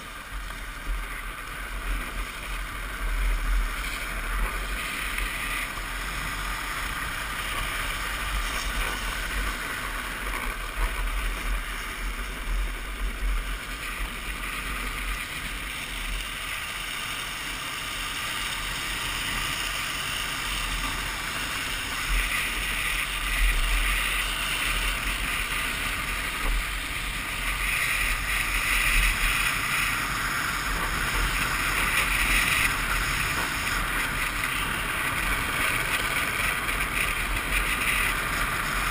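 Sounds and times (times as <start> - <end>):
wheels hissing on pavement: 0.0 - 38.9.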